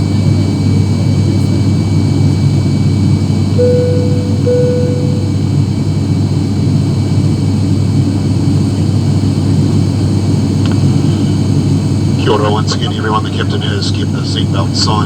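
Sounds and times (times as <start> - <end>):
turboprop engines droning: 0.0 - 15.0.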